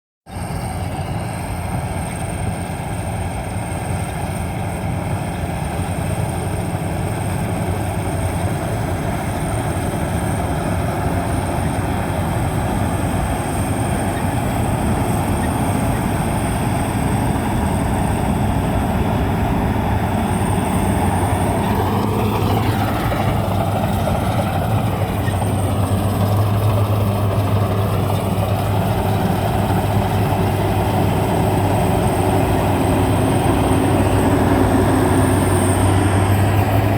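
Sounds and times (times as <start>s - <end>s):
combine harvester drone: 0.3s - 36.9s.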